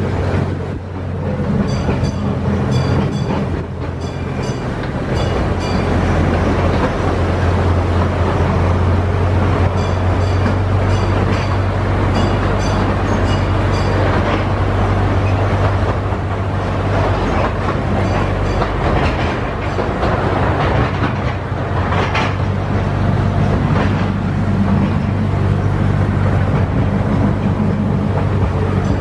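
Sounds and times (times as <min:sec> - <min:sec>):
miniature train rumble: 0:00.0 - 0:29.0
wheel clatter over rail joints: 0:00.0 - 0:29.0.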